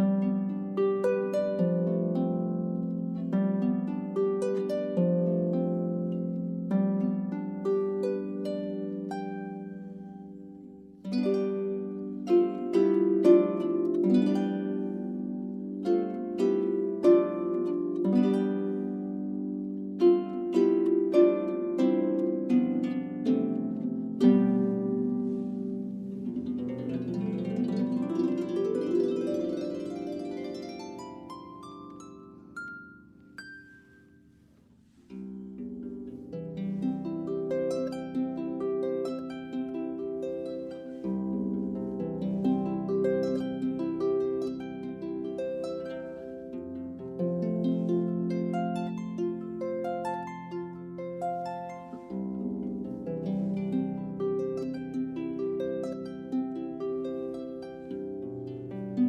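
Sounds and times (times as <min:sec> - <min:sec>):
harp notes plucked: 0:00.0 - 0:59.0.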